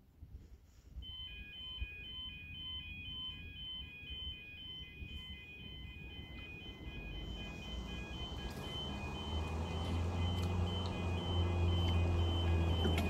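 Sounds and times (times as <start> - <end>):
warbling two-tone crossing alarm: 1.0 - 13.0.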